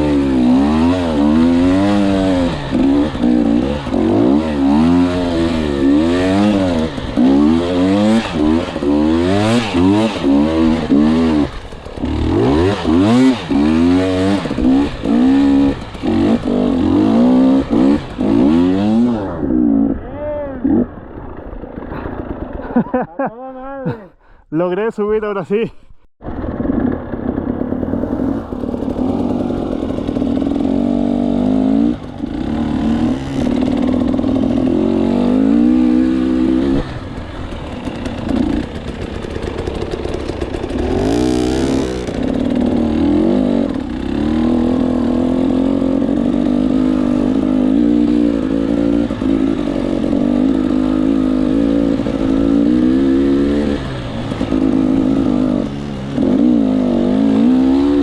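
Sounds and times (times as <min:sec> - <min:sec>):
two-stroke motorcycle revving: 0:00.0 - 0:23.2, 0:26.2 - 0:58.0.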